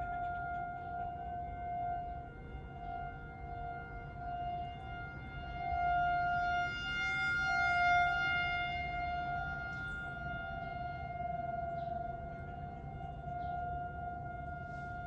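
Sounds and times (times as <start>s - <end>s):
rotating warning sirens: 0.0s - 15.0s.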